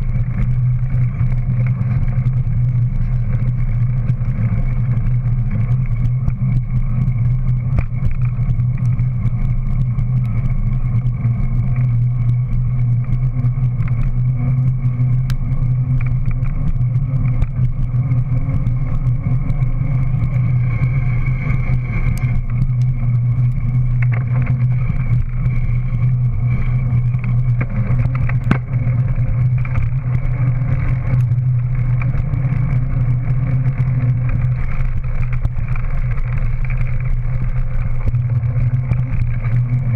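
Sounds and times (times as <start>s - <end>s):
bike tyre rolling on concrete: 0.0s - 39.9s.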